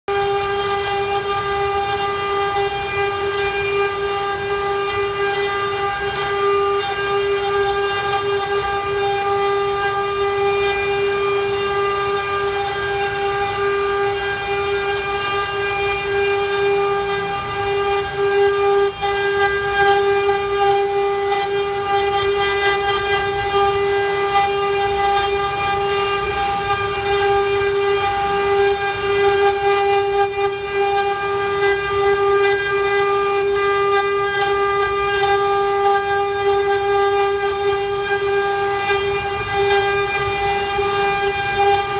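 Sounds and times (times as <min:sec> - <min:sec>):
bit cutting wood: 0:00.1 - 0:41.9
router spindle whine: 0:00.1 - 0:41.9.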